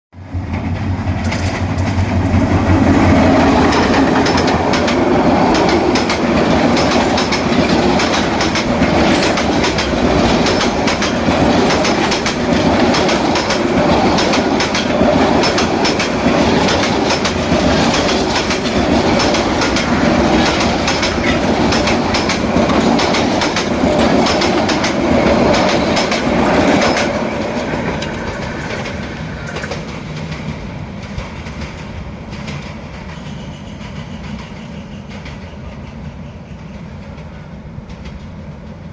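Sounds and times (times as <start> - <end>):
train wheels clacking over rail joints: 0.4 - 38.9
carriages rumbling: 0.5 - 36.1.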